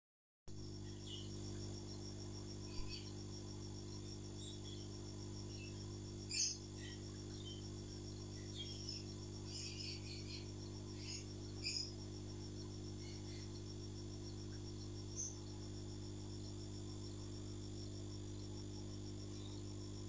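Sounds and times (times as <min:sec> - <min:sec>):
low electrical hum: 0:00.5 - 0:20.0.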